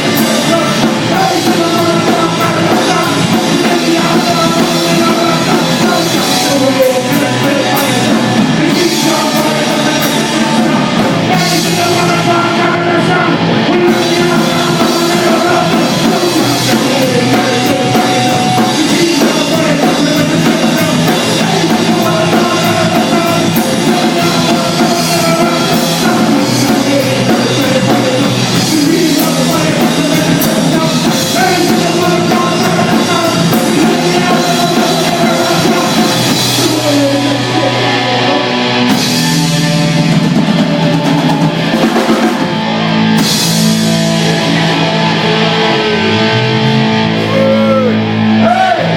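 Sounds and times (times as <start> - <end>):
loud rock band music: 0.0 - 48.9.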